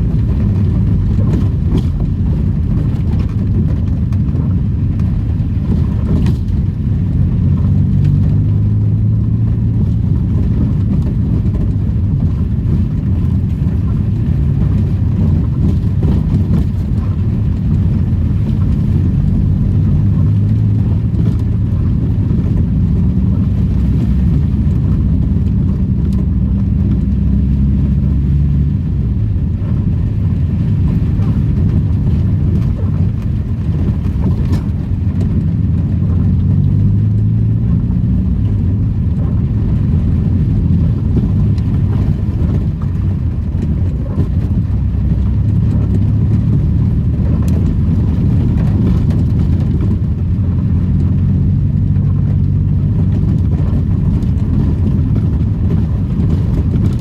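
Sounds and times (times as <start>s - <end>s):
car engine running: 0.0s - 57.0s
road noise rumble: 0.0s - 57.0s.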